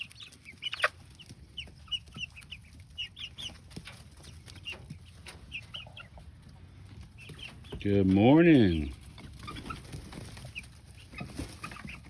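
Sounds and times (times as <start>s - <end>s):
young chickens peeping: 0.0s - 12.0s.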